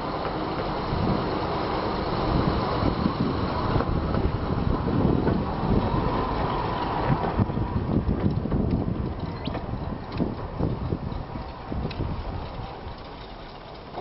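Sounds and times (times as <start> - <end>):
railcar engine passing: 0.0 - 14.0
wind buffeting microphone: 0.0 - 14.0.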